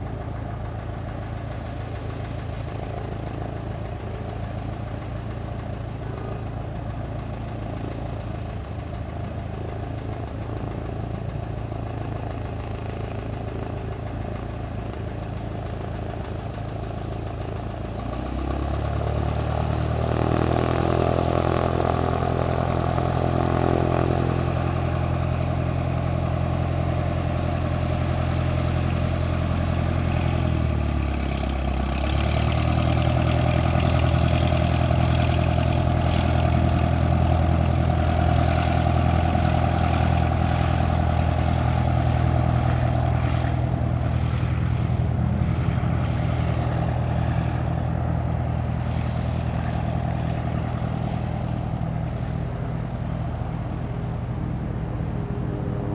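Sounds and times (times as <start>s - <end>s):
propeller plane engine running: 0.0s - 55.9s.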